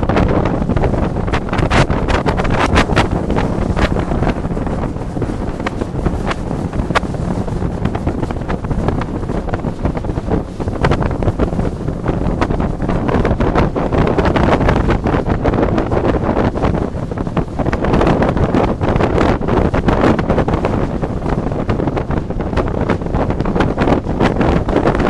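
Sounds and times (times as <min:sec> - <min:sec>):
boat engine roar: 0:00.0 - 0:25.0
wind buffeting microphone: 0:00.0 - 0:25.0.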